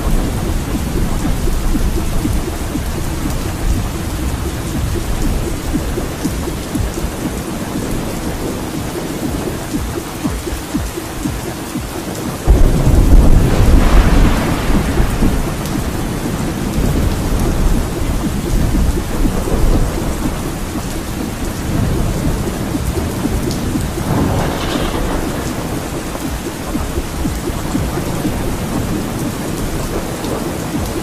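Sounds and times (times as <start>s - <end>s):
steady rain: 0.0s - 31.0s
thunder rumbling: 0.0s - 31.0s.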